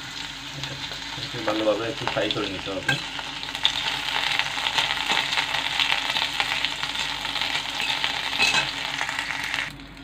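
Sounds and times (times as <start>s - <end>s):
food sizzling in hot oil: 0.0s - 9.8s.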